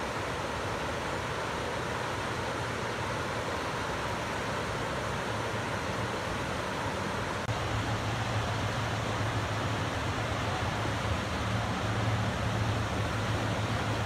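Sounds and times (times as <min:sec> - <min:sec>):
whitewater rushing over rocks: 0:00.0 - 0:14.0.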